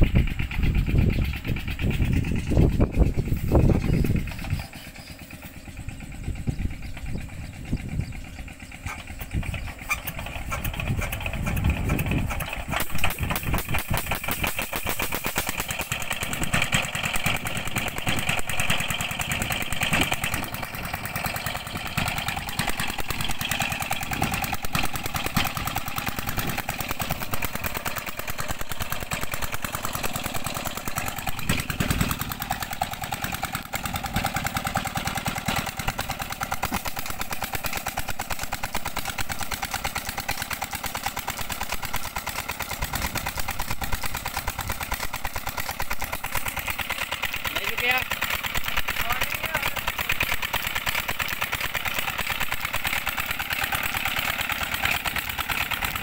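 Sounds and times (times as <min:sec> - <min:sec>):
diesel engine starting: 0:00.0 - 0:56.0.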